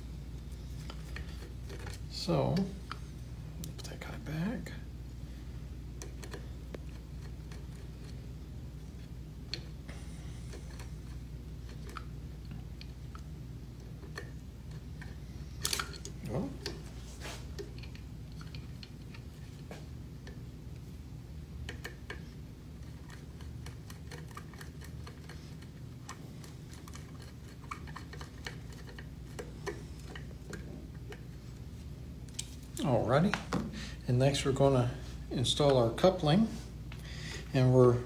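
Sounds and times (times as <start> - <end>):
low room hum: 0.0 - 38.0.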